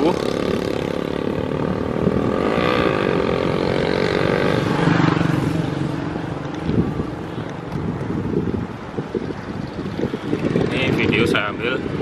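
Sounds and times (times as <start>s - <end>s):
small motorcycles passing: 0.0s - 12.0s.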